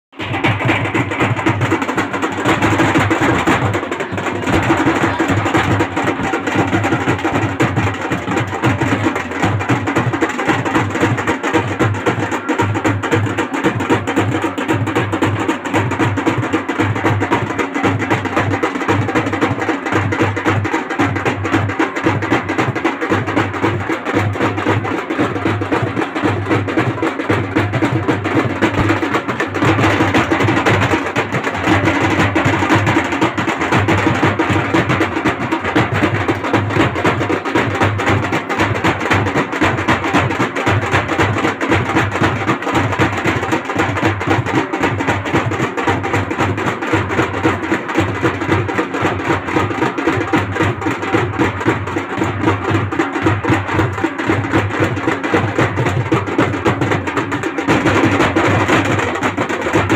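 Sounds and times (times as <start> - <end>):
fast folk drumming: 0.0 - 59.9.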